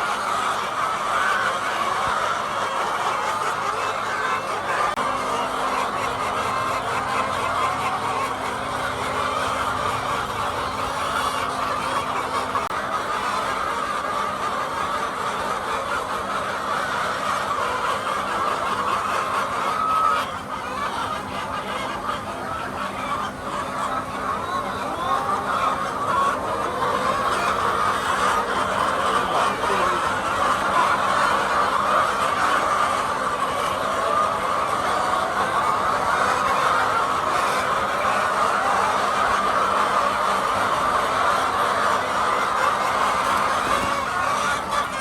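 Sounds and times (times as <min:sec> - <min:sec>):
hens clucking: 0:00.0 - 0:45.0.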